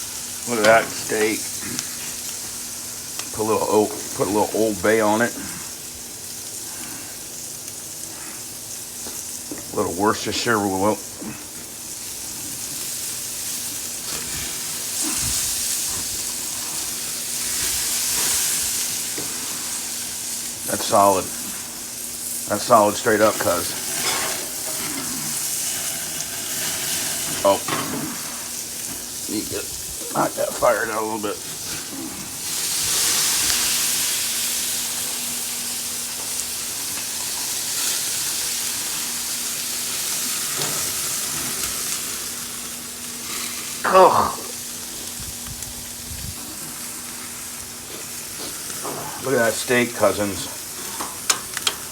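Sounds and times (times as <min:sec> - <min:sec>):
steak sizzling on a grill: 0:00.0 - 0:51.9.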